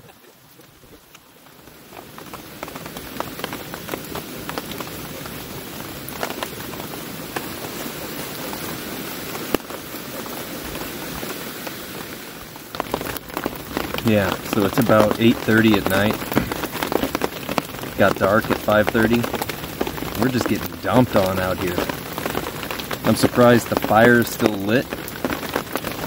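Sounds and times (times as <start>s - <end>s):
heavy rain falling: 0.0s - 26.0s
raindrops hitting close by: 0.0s - 26.0s.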